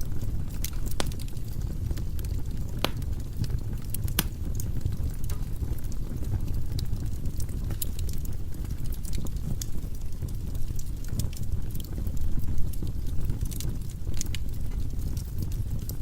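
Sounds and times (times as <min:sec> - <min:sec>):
fire low rumble: 0:00.0 - 0:16.0
firewood crackling and popping: 0:00.0 - 0:16.0.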